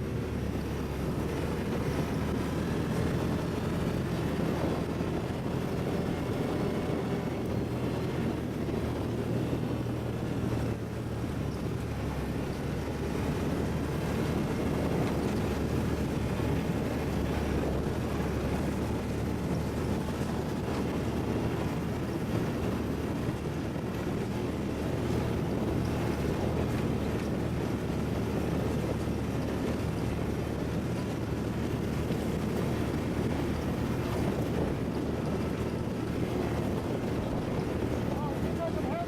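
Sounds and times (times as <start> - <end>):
atv engine running: 0.0 - 39.0
wind noise on microphone: 0.0 - 39.0.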